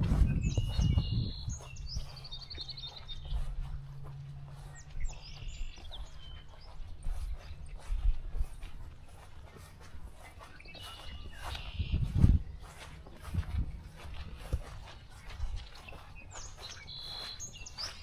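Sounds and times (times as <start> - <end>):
footsteps on trail: 0.0 - 18.0
songbirds singing: 0.0 - 18.0.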